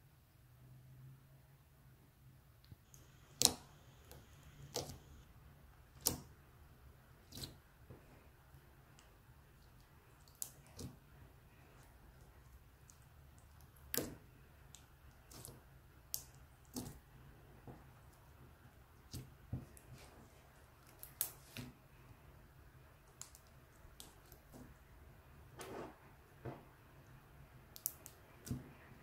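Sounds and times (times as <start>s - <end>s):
slime squishing by hand: 5.8s - 29.0s.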